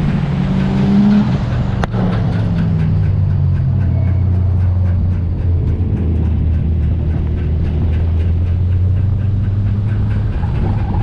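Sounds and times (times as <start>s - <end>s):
car engine running at low revs: 0.0s - 11.0s
fast regular ticking: 0.0s - 11.0s.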